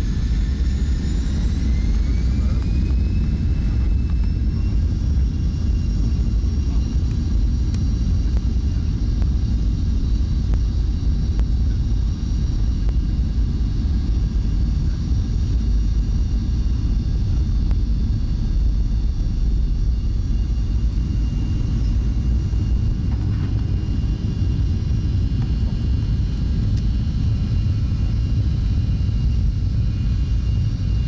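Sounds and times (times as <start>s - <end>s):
high fan whine: 0.0s - 31.0s
jet engines rumbling: 0.0s - 31.0s.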